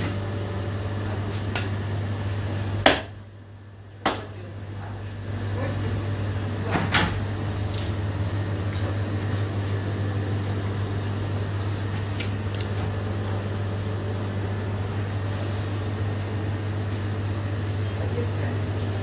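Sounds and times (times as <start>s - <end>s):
machine hum with faint hiss: 0.0s - 19.0s.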